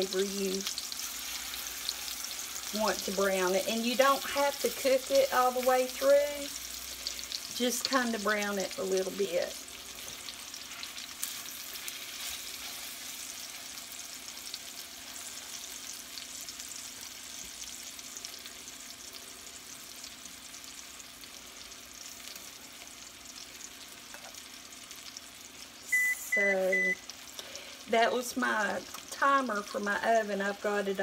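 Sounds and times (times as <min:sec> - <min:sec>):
chicken sizzling in a frying pan: 0:00.0 - 0:31.0.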